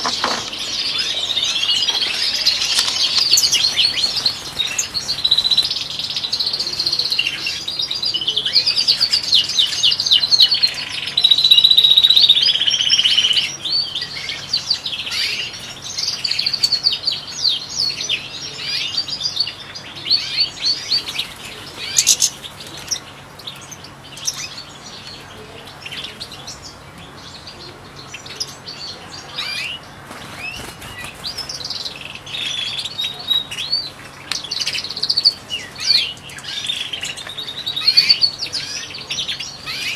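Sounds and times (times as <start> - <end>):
goldfinches singing and twittering: 0.0 - 39.9.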